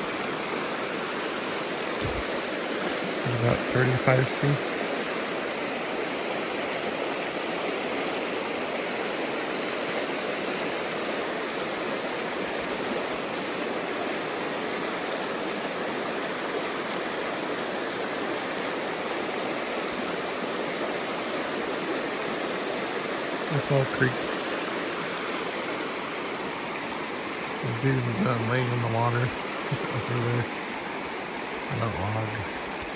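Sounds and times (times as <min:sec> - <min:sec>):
creek water rushing over rocks: 0:00.0 - 0:32.9.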